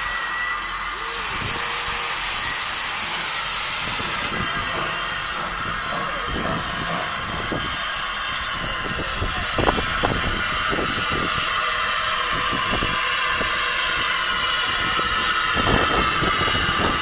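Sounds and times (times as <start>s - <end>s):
hiss of escaping steam: 0.0s - 17.0s
steam locomotive chuffing: 0.0s - 17.0s.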